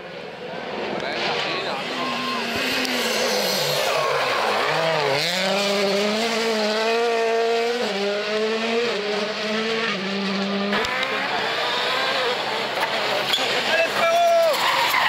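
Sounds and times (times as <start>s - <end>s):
rally car engine running hard: 0.2s - 14.0s.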